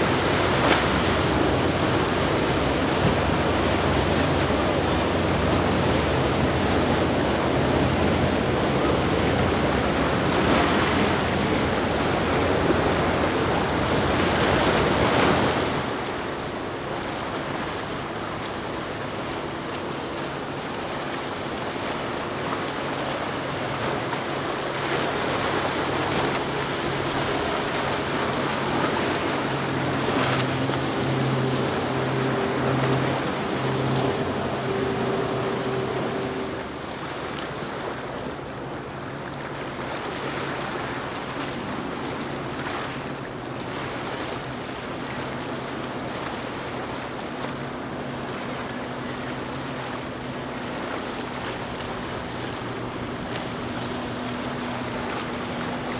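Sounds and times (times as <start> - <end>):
boat engine hum: 0.0 - 55.9
rushing water of waves: 0.0 - 55.9.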